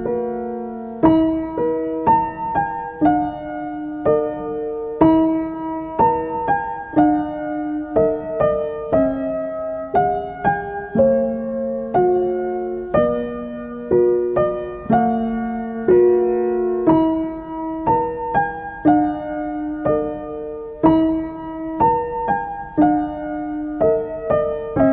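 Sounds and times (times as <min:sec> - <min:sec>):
slow solo piano piece: 0:00.0 - 0:24.9.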